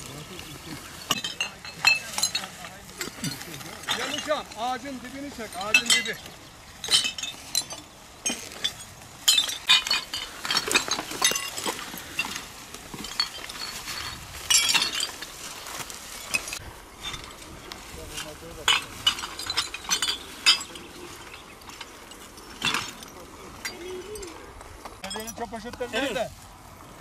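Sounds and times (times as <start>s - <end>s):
glass bottles clinking: 0.6s - 26.1s.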